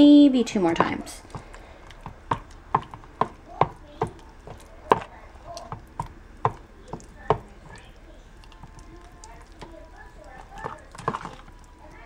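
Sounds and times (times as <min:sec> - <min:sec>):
spoon tapping and scraping bowl: 0:00.7 - 0:07.8, 0:08.4 - 0:11.7.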